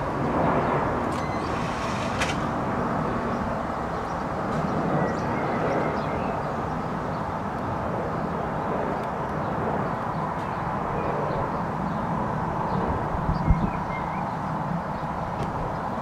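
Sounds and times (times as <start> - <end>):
airliner engines rumbling overhead: 0.0 - 16.0.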